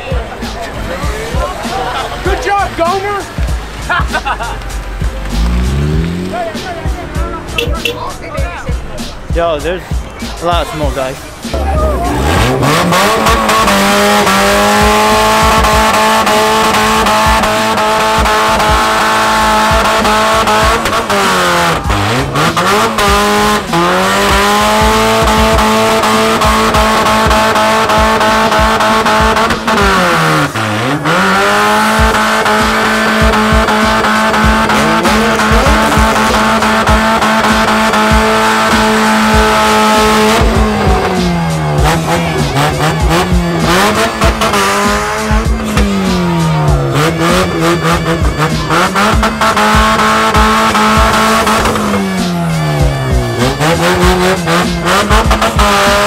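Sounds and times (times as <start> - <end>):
car engine revving high: 0.0 - 8.1, 11.0 - 56.0
tyres screeching: 0.0 - 56.0.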